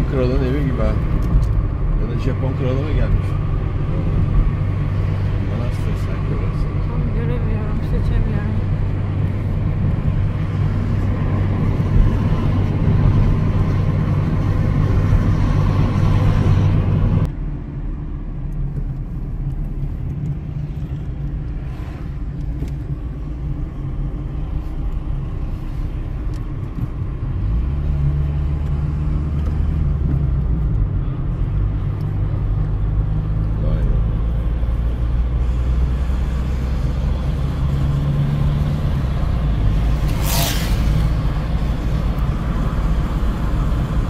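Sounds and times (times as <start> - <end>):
car road and engine drone: 0.0 - 44.0.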